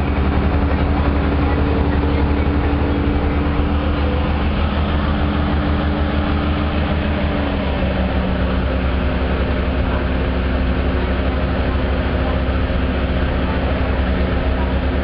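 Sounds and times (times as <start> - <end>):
locomotive engine running: 0.0 - 15.0
low rumble of moving train: 0.0 - 15.0.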